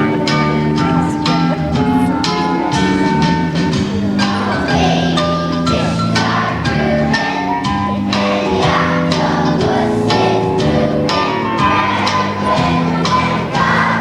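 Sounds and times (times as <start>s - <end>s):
children's choir singing: 0.0s - 14.0s
instrumental accompaniment with beat: 0.0s - 14.0s.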